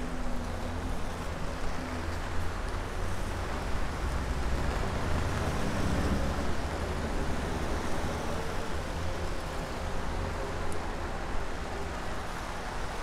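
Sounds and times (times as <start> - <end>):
rain: 0.0 - 13.0
traffic on wet road: 0.0 - 13.0.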